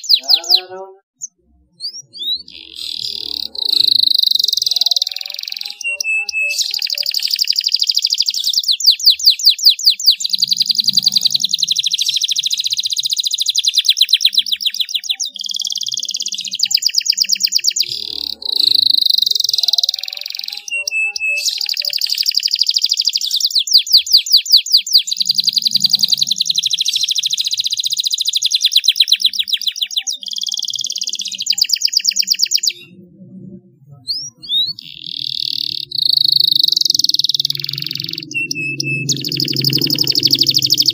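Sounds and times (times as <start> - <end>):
canary chirps: 0.0 - 40.9
canary singing trills: 0.0 - 40.9.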